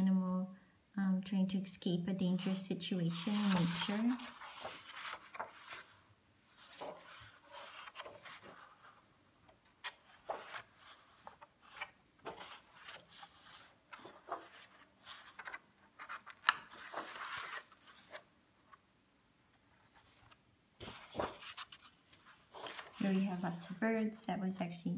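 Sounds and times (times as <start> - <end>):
book pages rustling: 2.4 - 18.8, 19.6 - 23.8.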